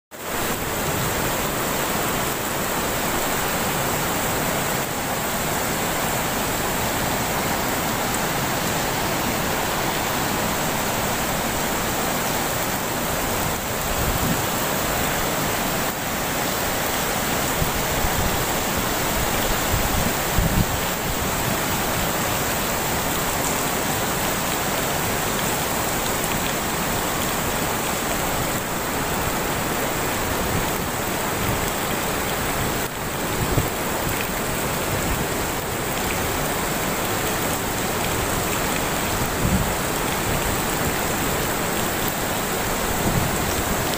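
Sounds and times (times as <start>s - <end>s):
river water rushing: 0.1s - 43.9s.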